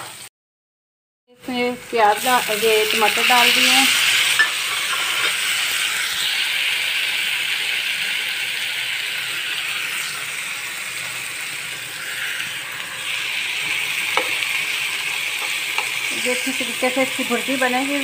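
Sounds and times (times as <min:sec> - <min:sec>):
vegetables sizzling in hot oil: 0:00.0 - 0:00.3, 0:01.5 - 0:18.0.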